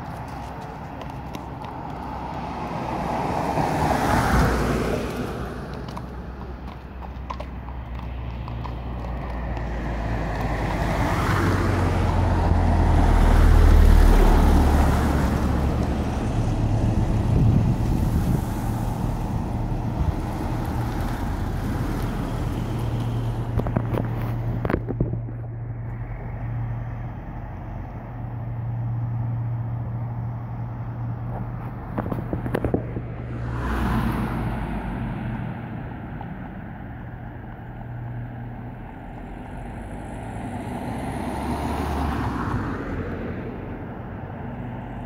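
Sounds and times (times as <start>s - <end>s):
low hum of slow cars: 0.0s - 45.0s
traffic passing close: 0.0s - 45.0s.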